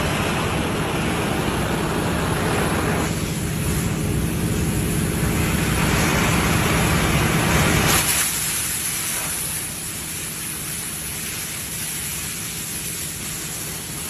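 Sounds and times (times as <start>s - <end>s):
gas cutting torch hissing: 2.4s - 14.0s.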